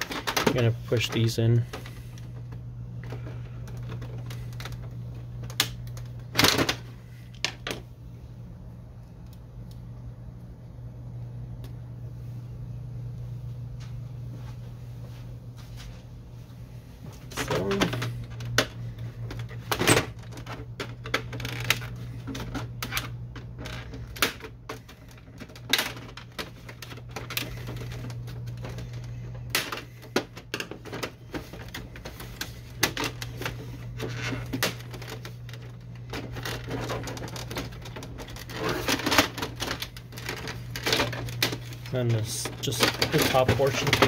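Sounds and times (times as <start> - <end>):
low hum: 0.0 - 44.0.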